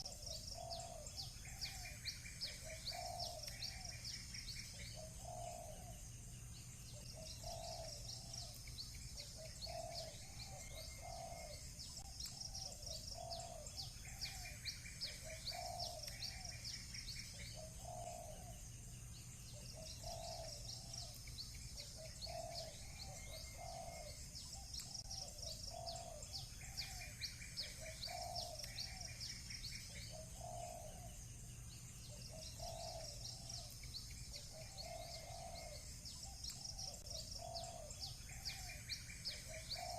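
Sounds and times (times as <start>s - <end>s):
doves cooing: 0.0s - 6.1s, 6.8s - 18.7s, 19.4s - 31.2s, 32.0s - 39.9s
small birds chirping: 0.0s - 39.9s.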